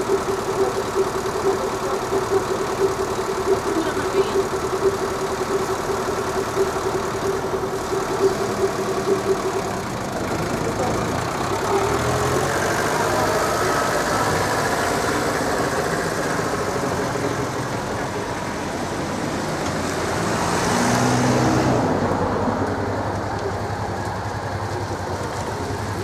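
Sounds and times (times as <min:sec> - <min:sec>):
cars driving past: 0:00.0 - 0:26.0
tourist train engine: 0:00.0 - 0:26.0.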